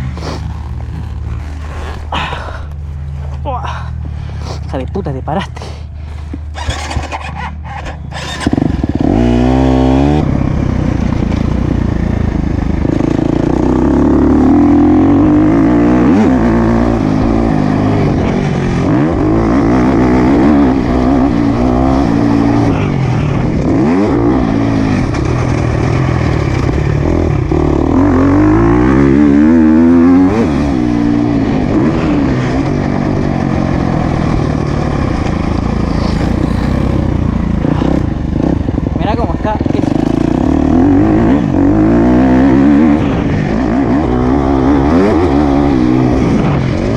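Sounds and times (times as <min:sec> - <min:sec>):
motocross bike engine revving: 0:05.6 - 0:46.9.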